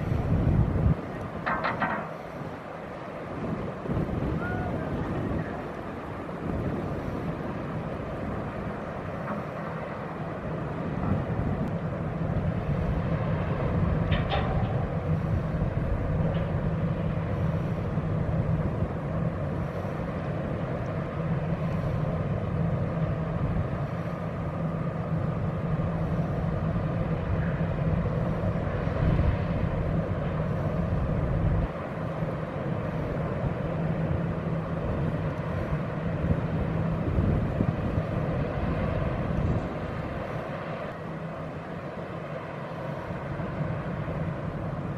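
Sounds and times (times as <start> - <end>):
ship engines droning: 0.0 - 44.9.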